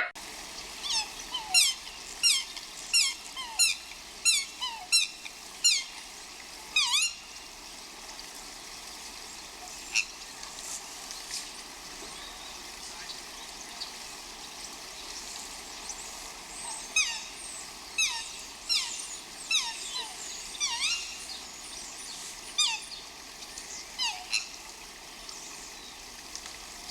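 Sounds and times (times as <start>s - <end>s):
outdoor hiss: 0.0s - 26.9s.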